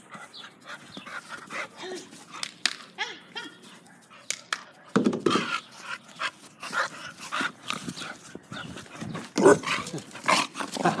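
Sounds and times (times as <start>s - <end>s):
dogs play noises: 0.0s - 11.0s.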